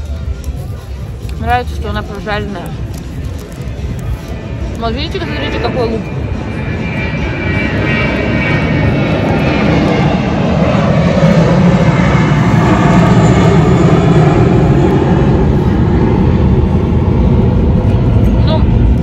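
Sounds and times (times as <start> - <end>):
aircraft engine roar: 0.0 - 19.0.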